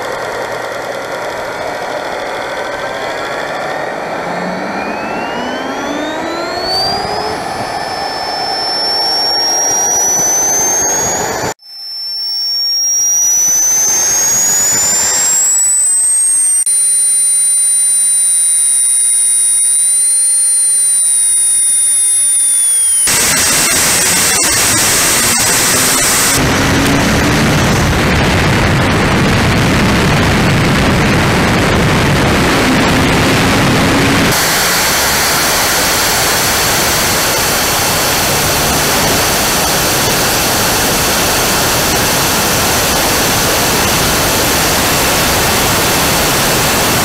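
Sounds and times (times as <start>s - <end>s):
jet engine rushing roar: 0.0s - 47.0s
small turbine engine whine: 0.0s - 47.0s.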